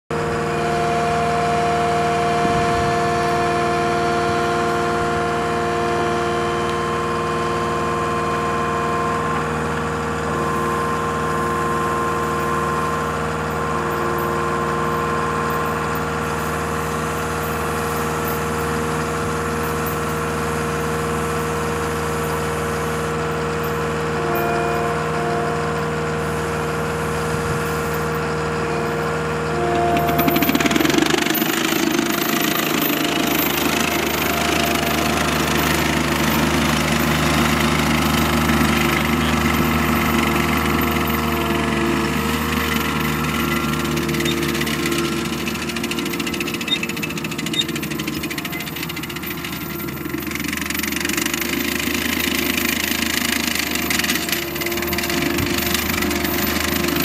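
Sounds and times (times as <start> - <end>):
diesel engine running: 0.1 - 57.0
hydraulic whine: 0.1 - 57.0.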